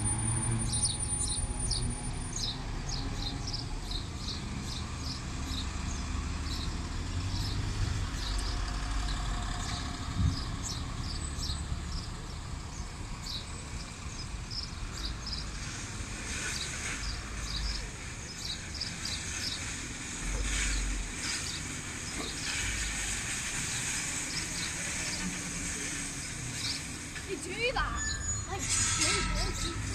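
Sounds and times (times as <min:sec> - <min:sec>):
bus driving past: 0:00.0 - 0:29.9
low engine and traffic rumble: 0:00.0 - 0:29.9
small birds chirping: 0:00.5 - 0:29.9.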